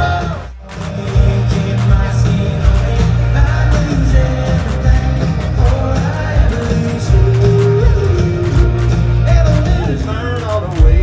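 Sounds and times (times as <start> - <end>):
guitar: 0.0 - 11.0
person singing: 0.0 - 11.0
drum beat: 0.5 - 11.0.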